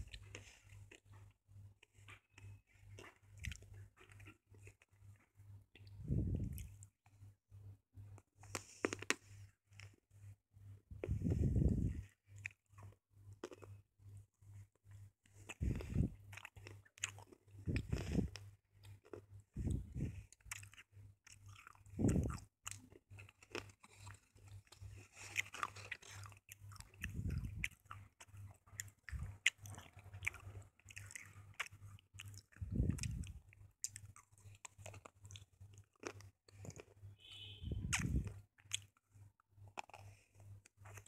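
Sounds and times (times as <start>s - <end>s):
crunchy chewing: 0.0s - 6.9s, 8.1s - 10.0s, 11.0s - 13.8s, 14.6s - 41.0s
faint steady hum: 0.0s - 41.0s.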